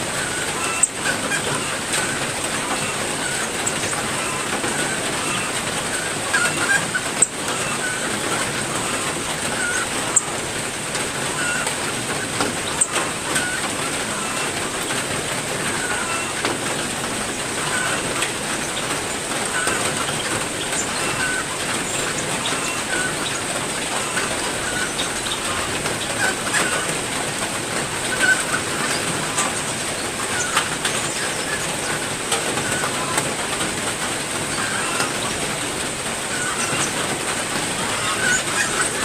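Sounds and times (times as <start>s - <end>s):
heavy rain: 0.0s - 39.0s
songbirds chirping: 0.0s - 39.0s.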